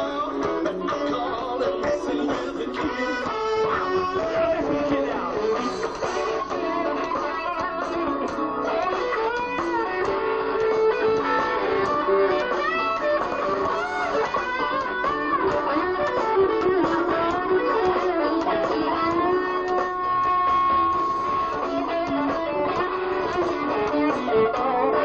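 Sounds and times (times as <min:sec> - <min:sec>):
electric guitar bending notes: 0:00.0 - 0:25.0
live band music: 0:00.0 - 0:25.0.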